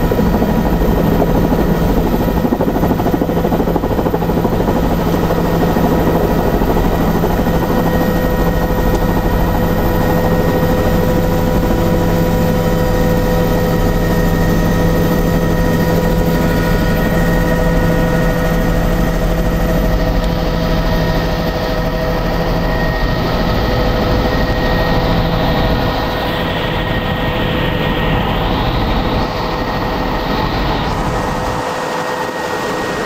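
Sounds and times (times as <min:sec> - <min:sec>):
helicopter engine and rotor noise: 0:00.0 - 0:33.0.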